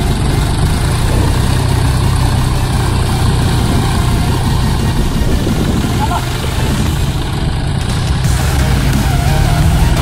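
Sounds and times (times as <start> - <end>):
tractor diesel engines under load: 0.0 - 10.0.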